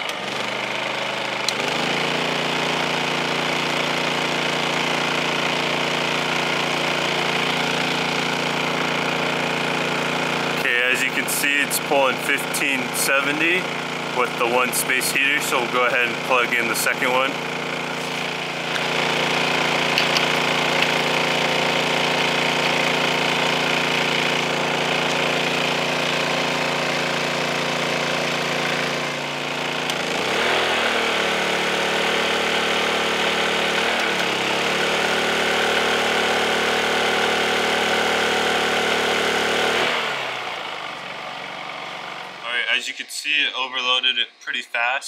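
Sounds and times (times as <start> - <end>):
generator engine running: 0.0 - 44.9.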